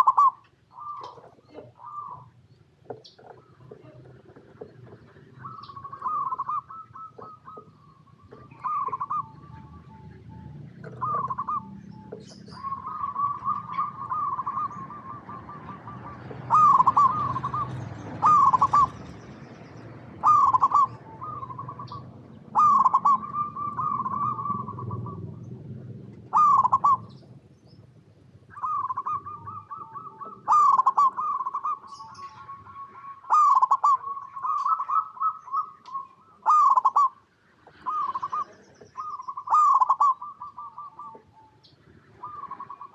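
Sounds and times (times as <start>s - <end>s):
doves cooing: 0.0s - 42.9s.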